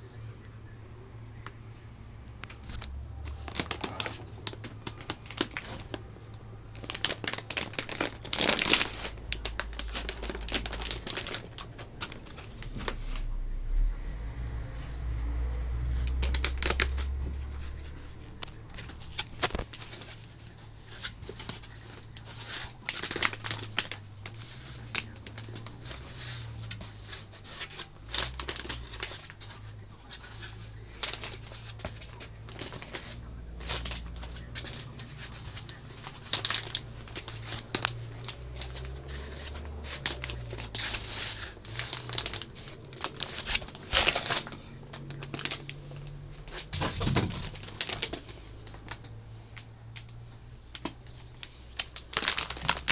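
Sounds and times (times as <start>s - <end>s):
plastic wrap crinkling: 2.4s - 13.4s, 15.8s - 49.2s, 49.9s - 52.9s.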